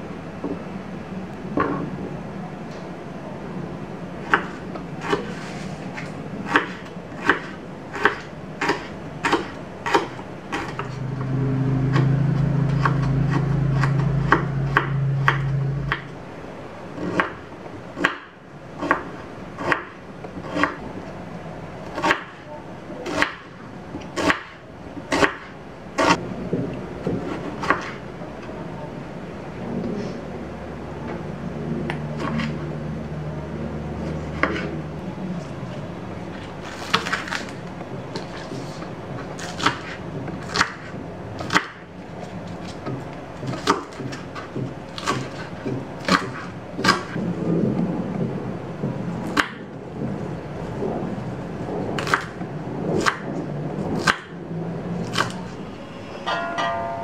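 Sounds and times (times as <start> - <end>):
steady low hum: 0.0 - 22.0, 24.6 - 57.0.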